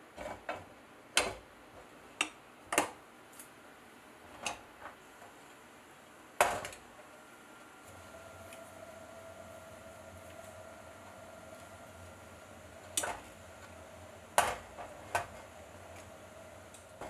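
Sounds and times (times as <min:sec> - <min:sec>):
steady hum with faint tone: 0:00.0 - 0:17.0.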